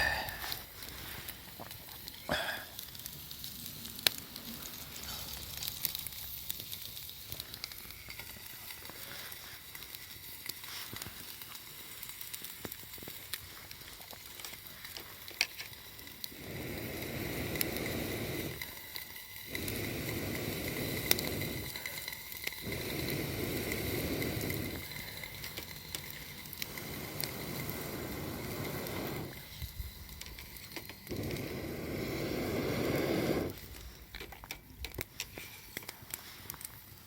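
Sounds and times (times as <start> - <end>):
campfire crackling: 0.0 - 37.0
food sizzling: 0.0 - 37.0
sharp fire pops: 0.0 - 37.0.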